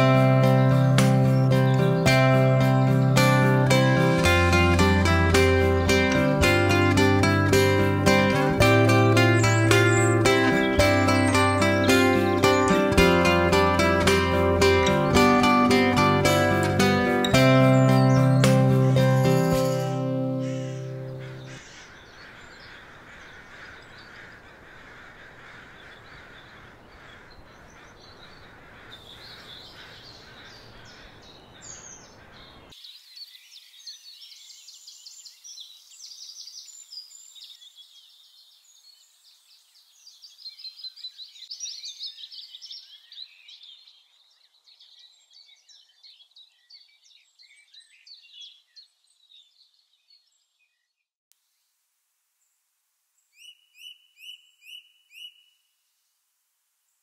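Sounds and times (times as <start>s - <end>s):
songbirds trilling and chirping: 0.0s - 51.0s, 53.2s - 56.1s.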